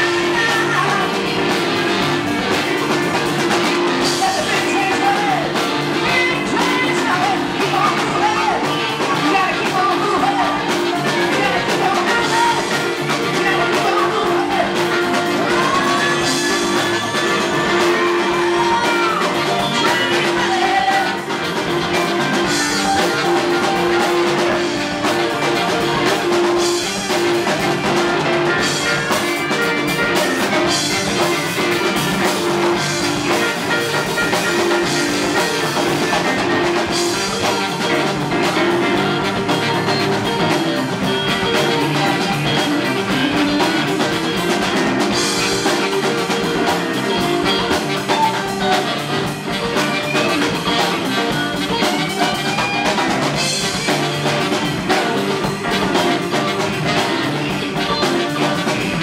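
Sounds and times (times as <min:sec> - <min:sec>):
live rock band playing: 0:00.0 - 0:59.0
saxophone playing: 0:00.0 - 0:59.0.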